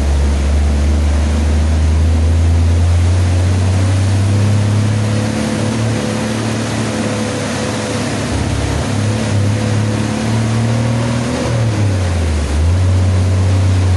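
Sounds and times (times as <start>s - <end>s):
constant rushing noise: 0.0s - 13.9s
engine humming: 0.0s - 13.9s.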